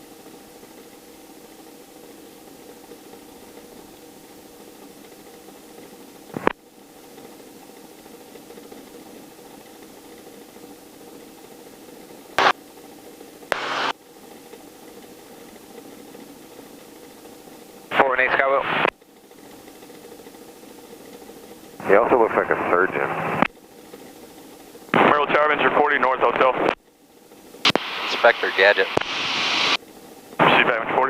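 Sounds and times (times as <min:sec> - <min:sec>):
helicopter cabin drone: 0:00.0 - 0:31.0.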